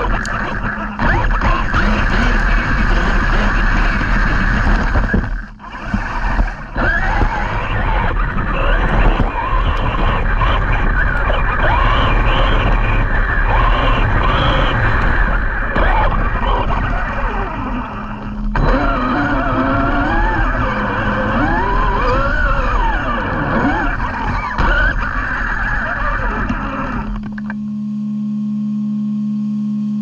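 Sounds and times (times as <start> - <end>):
steady rush of noise: 0.0 - 27.6
electric motors whining: 0.0 - 27.7.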